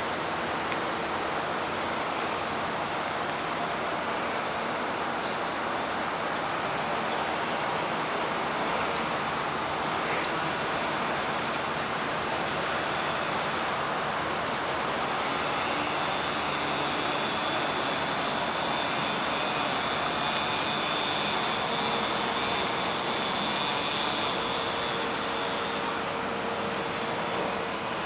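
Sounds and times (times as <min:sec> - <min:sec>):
faint high whine: 0:00.0 - 0:28.0.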